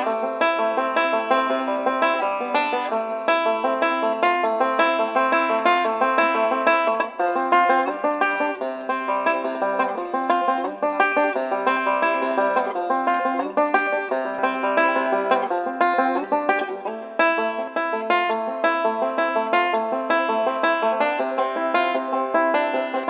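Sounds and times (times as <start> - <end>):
resonator banjo picking: 0.0 - 23.0.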